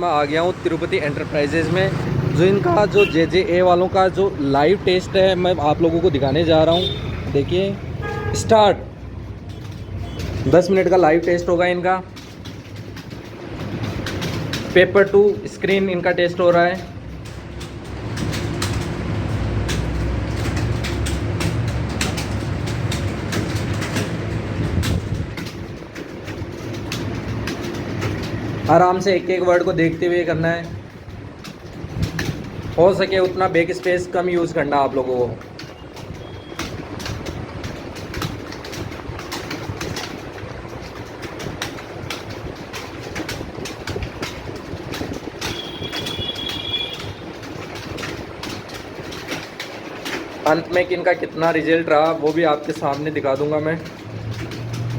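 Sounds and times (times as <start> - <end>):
computer keyboards typing: 0.0 - 54.9.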